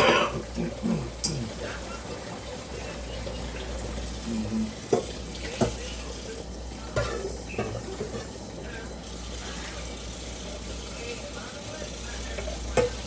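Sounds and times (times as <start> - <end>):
faint indistinct voices: 0.0 - 13.0.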